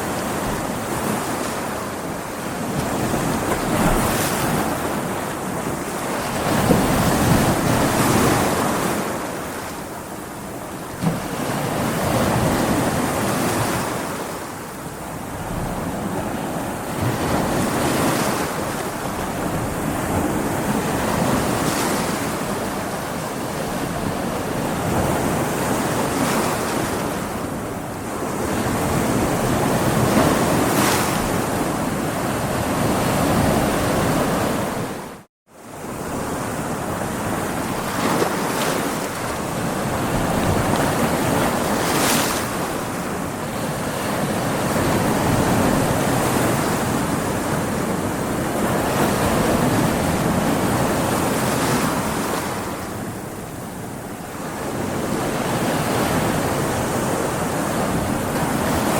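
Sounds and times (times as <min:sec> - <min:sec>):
ocean waves breaking on rocks: 0:00.0 - 0:58.9.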